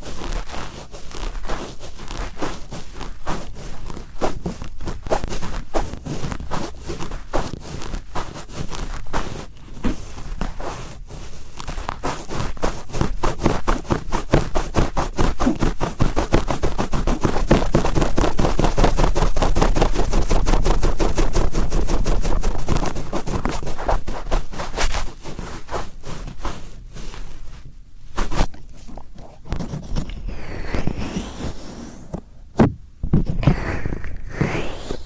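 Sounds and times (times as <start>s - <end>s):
cotton swab scratching in ear: 0.0s - 32.3s, 33.4s - 35.0s.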